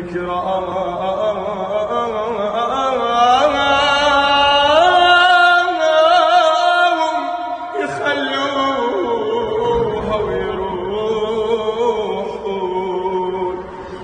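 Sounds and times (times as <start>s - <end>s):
slow mournful wordless song: 0.0s - 14.0s.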